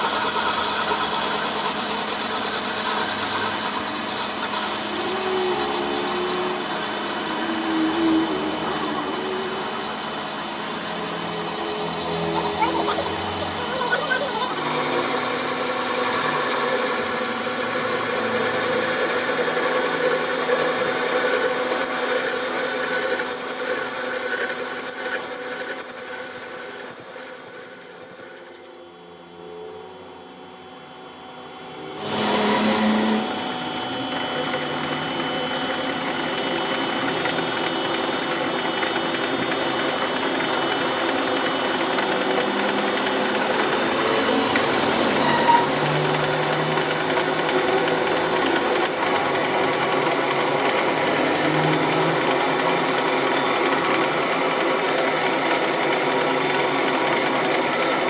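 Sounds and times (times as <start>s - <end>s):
power tool motor humming: 0.0s - 28.8s, 31.8s - 58.0s.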